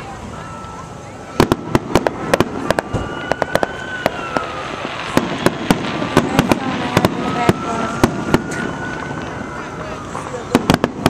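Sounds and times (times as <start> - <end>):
firework whistling: 0.0 - 11.0
fireworks crackling: 0.0 - 11.0
firework bangs: 0.4 - 11.0.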